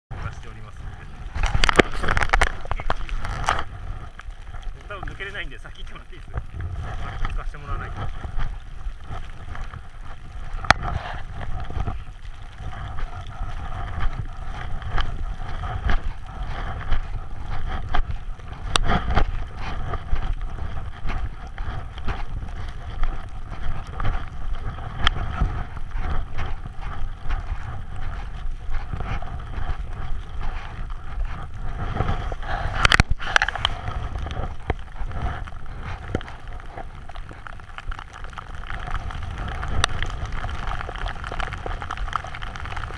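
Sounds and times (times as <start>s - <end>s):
snow rushing under skis: 0.1s - 42.9s
wind buffeting microphone: 0.1s - 42.9s.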